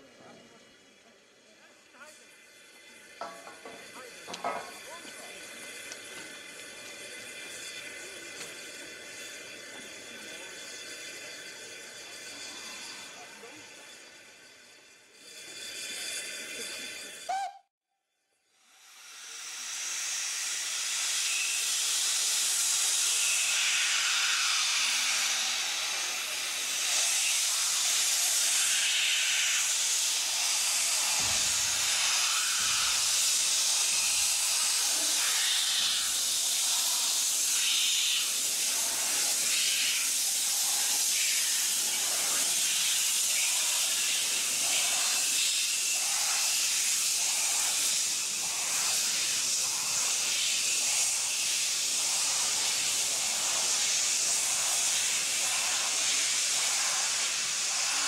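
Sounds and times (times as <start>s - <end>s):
steam locomotive hissing: 0.0s - 17.6s, 18.7s - 58.0s.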